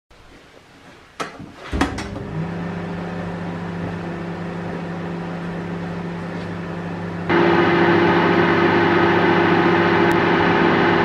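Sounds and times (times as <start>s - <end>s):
microwave oven humming: 1.7s - 11.0s.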